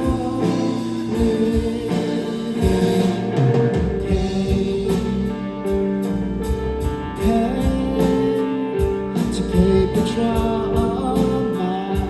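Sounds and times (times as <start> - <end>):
drum kit with cymbals: 0.0 - 12.0
sustained guitar chords: 0.0 - 12.0.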